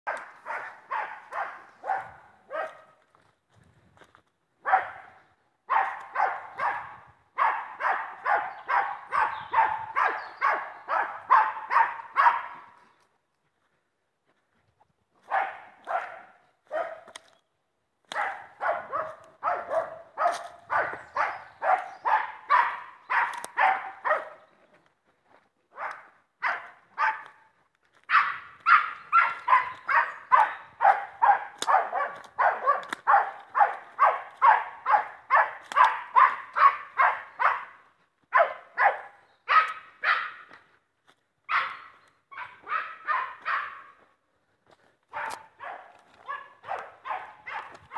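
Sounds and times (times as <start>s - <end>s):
dog barking: 0.1s - 3.0s, 4.6s - 12.8s, 15.2s - 17.2s, 18.1s - 24.5s, 25.7s - 40.6s, 41.5s - 44.2s, 45.1s - 47.9s.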